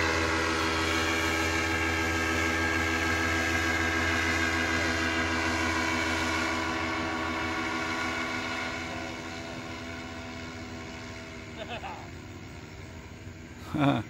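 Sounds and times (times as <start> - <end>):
paramotor engine droning overhead: 0.0 - 14.0.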